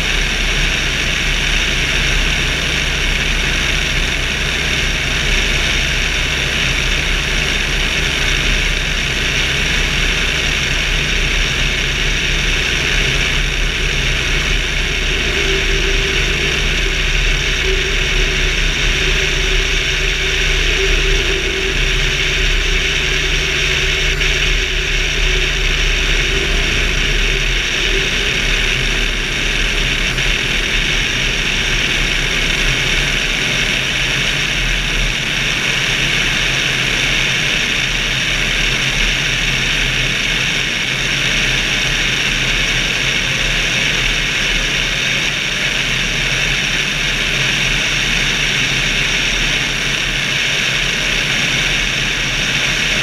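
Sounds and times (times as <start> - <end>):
engine and propeller drone: 0.0 - 53.0
rushing airflow over wing: 0.0 - 53.0.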